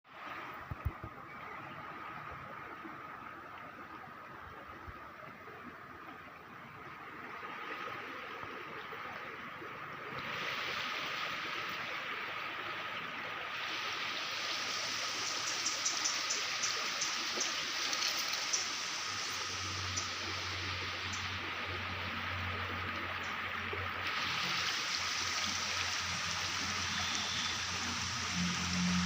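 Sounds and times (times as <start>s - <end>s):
stream water rushing: 0.1s - 29.0s.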